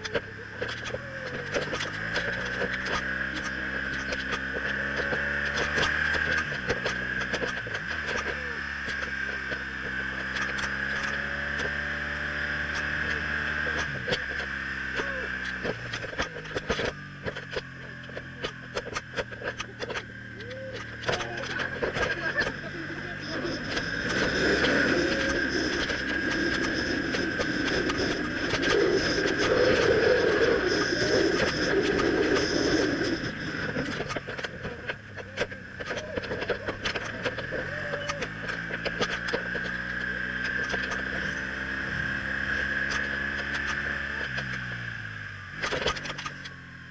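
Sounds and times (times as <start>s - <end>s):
motorcycle engine running: 0.0s - 46.9s
sharp clicks and ticks: 0.0s - 46.9s.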